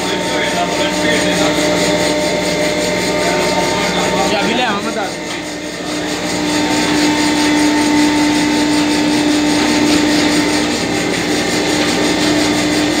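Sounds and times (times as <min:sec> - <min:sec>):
workshop machine humming: 0:00.0 - 0:13.0.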